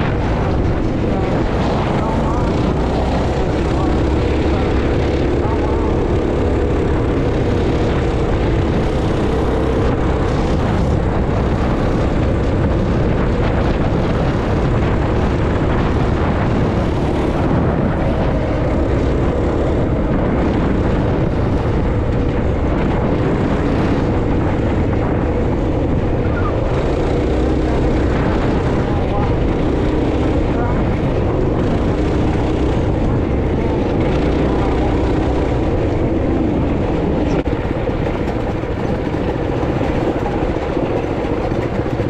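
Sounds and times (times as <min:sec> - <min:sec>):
motorbike engine drone: 0:00.0 - 0:42.0
wind rush on microphone: 0:00.0 - 0:42.0.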